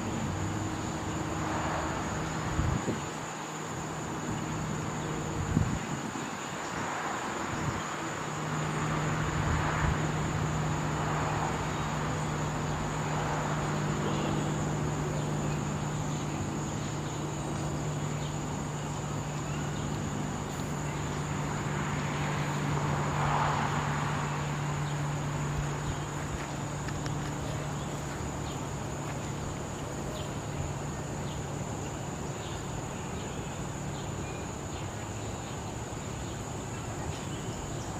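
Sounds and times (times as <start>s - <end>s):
distant propeller plane droning: 0.0s - 37.9s
insects buzzing: 0.0s - 37.9s.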